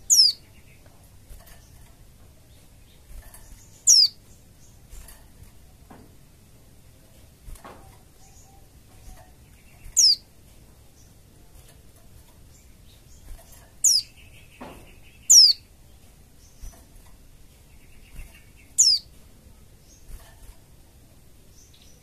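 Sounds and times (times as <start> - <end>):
soft buzzy bird chatter: 0.0 - 22.0.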